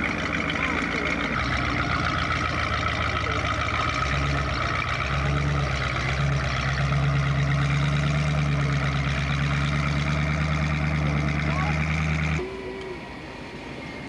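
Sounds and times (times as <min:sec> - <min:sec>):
off-road car engine under load: 0:00.0 - 0:14.0.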